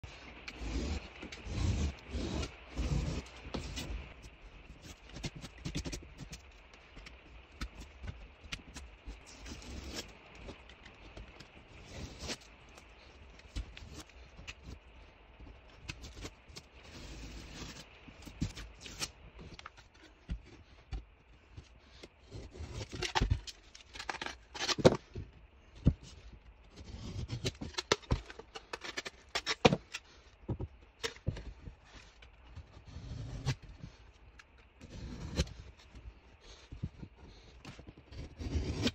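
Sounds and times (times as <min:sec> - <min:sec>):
knife scraping drywall: 0:00.1 - 0:06.4, 0:07.0 - 0:14.8, 0:15.8 - 0:25.0, 0:25.8 - 0:30.2, 0:31.0 - 0:34.0, 0:34.8 - 0:38.9.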